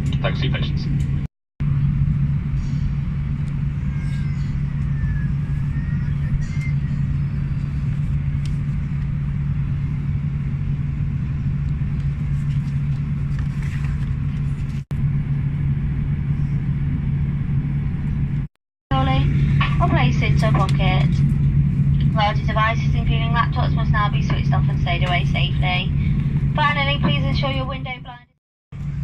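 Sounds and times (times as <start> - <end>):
cabin ventilation drone: 0.0 - 29.0.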